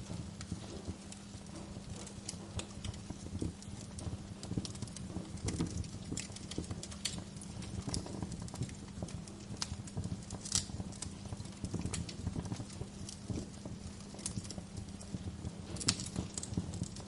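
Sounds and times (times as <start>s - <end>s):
low rumbling hiss: 0.0s - 17.0s
wood fire crackling: 0.0s - 17.0s.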